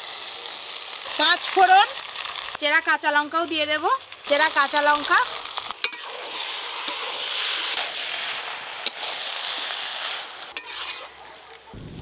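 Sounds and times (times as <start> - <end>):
spices sizzling in hot oil: 0.0 - 11.7.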